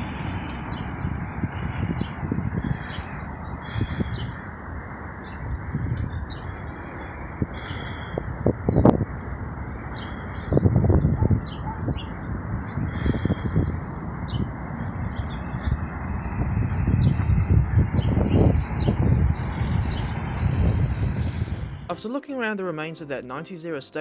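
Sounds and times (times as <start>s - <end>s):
wind buffeting microphone: 0.0s - 21.9s
birds chirping: 0.0s - 22.0s
high-pitched insect drone: 0.9s - 21.7s.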